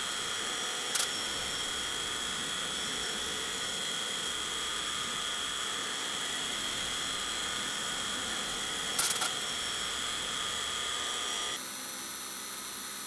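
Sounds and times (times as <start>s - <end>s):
milling machine cutting metal: 0.0s - 11.6s.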